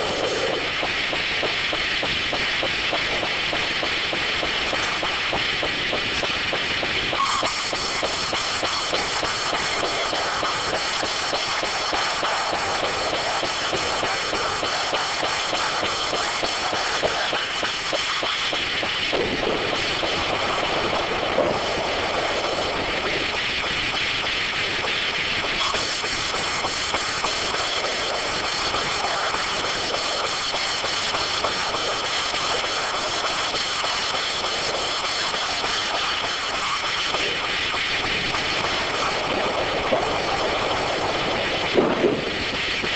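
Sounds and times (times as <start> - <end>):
high-pitched whine: 0.0 - 42.9
sawmill machinery running: 0.0 - 42.9.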